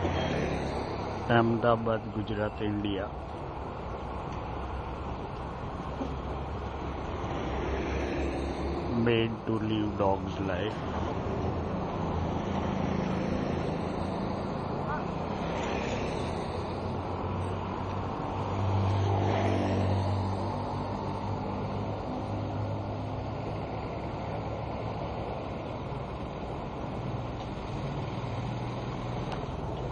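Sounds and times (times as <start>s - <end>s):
street traffic din: 0.0s - 29.9s.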